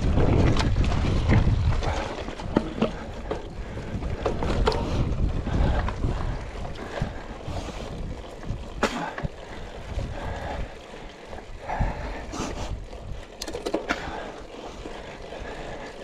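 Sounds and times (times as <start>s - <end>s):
bike clicks and rattles: 0.0s - 16.0s
wind rumbling on microphone: 0.0s - 16.0s.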